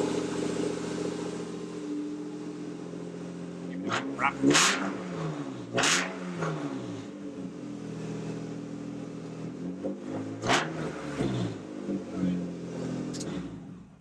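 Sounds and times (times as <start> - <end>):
car engine idling: 0.0 - 14.0
engine revving throttle blips: 0.0 - 14.0.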